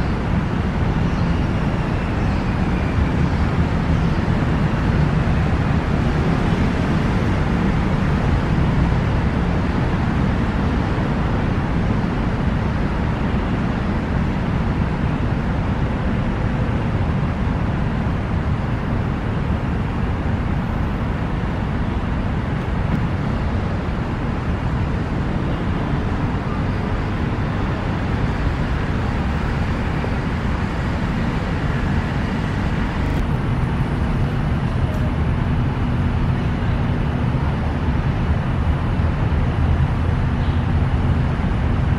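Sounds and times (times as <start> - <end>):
city road traffic rumble: 0.0 - 41.9.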